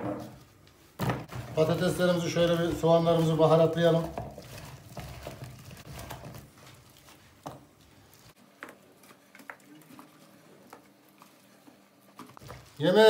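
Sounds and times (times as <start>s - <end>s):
wet squelching of mixing food: 1.3s - 13.0s.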